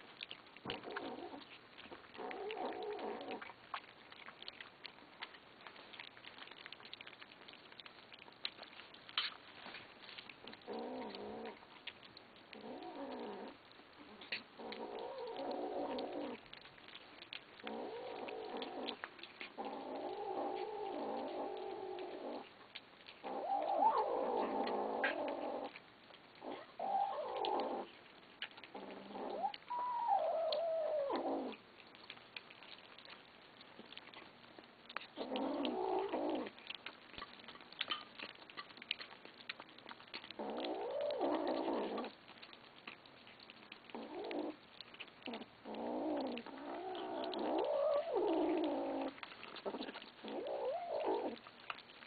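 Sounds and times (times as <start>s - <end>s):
kittens growling: 0.0s - 4.6s, 10.4s - 25.8s, 26.4s - 52.0s.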